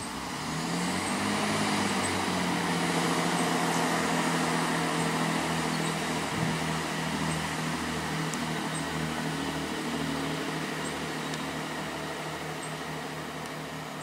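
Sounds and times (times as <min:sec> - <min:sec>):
train diesel engines droning: 0:00.0 - 0:14.0.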